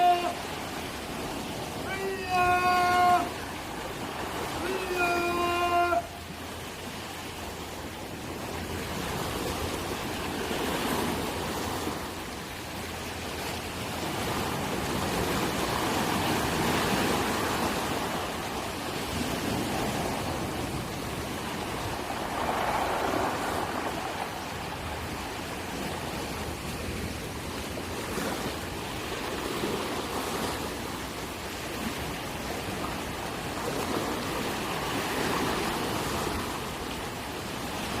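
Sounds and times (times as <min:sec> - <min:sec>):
water rushing and splashing: 0:00.0 - 0:38.0.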